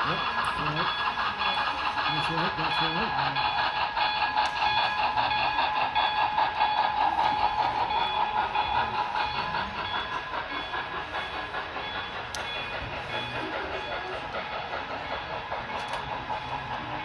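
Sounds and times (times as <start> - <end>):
model train mechanical whine: 0.0 - 17.0
model train wheels clicking: 0.0 - 17.0.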